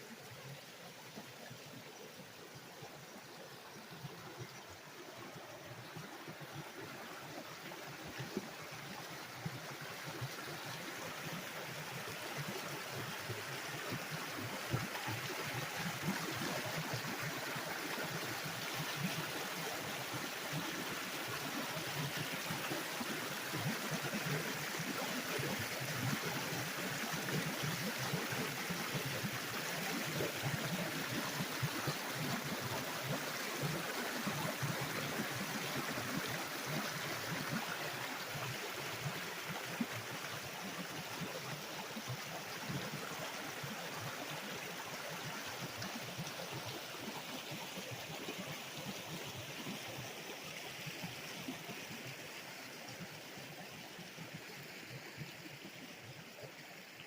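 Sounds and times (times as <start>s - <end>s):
small stream flowing: 0.0s - 57.0s.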